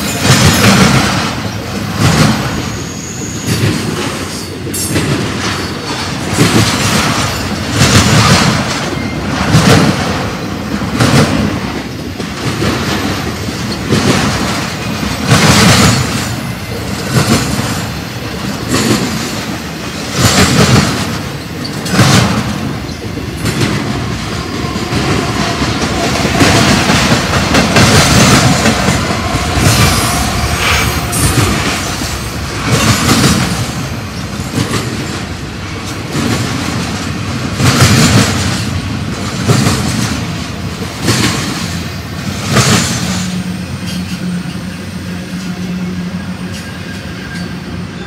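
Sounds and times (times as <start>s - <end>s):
freight train wheels clattering: 0.0s - 48.0s.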